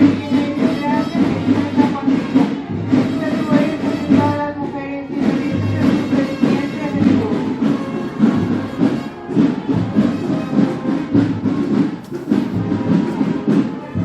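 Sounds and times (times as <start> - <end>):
brass marching band playing: 0.0 - 14.0.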